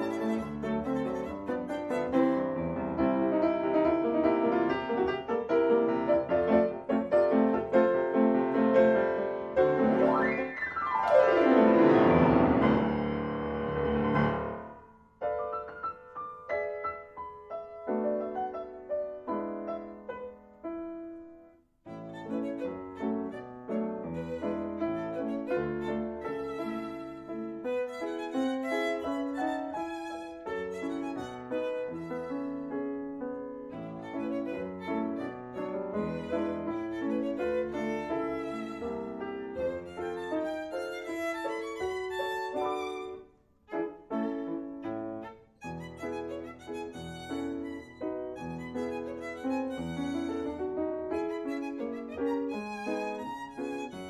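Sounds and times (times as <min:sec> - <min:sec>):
violin melody: 0:00.0 - 0:14.6, 0:21.8 - 0:54.0
piano accompaniment: 0:00.0 - 0:54.0.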